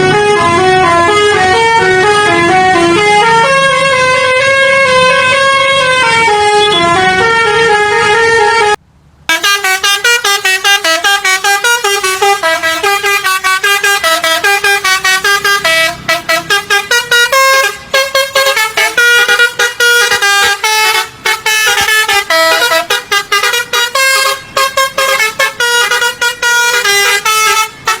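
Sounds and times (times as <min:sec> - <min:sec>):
bus horn playing a tune: 0:00.0 - 0:28.0.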